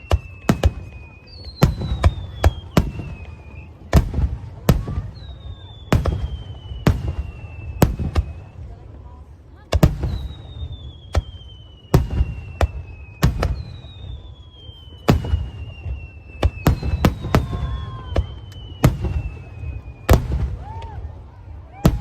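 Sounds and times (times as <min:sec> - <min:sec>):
fireworks bangs: 0:00.0 - 0:22.0
fireworks whistling: 0:00.0 - 0:22.0.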